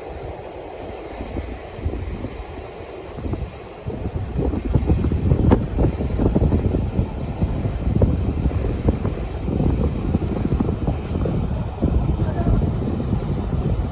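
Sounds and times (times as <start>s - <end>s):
river ice rumbling and crackling: 0.0s - 13.9s
wind buffeting microphone: 0.0s - 13.9s.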